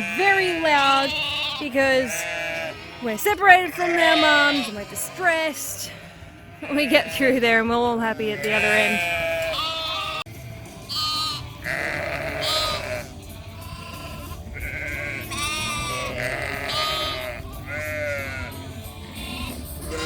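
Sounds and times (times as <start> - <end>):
lambs bleating: 0.0 - 20.0.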